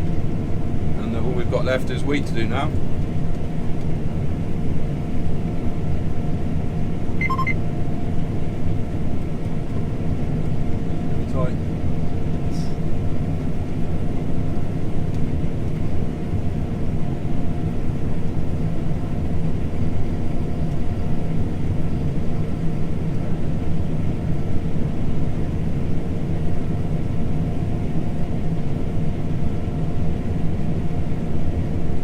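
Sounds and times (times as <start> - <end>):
combine harvester engine drone: 0.0 - 32.0.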